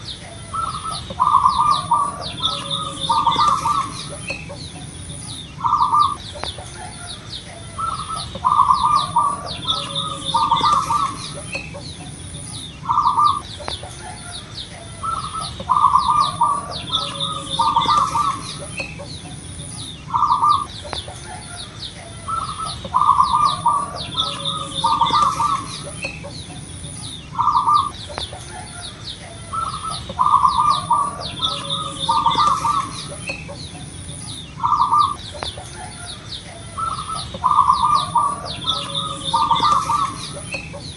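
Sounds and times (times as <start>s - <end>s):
dove cooing: 0.0s - 40.9s
small birds chirping: 0.0s - 40.9s
steady high whine: 0.0s - 40.9s.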